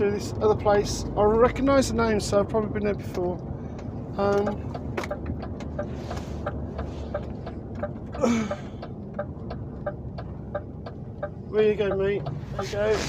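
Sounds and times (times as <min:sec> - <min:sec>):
diesel engine rumble: 0:00.0 - 0:13.0
road noise inside cab: 0:00.0 - 0:13.0
light ticking: 0:00.7 - 0:13.0.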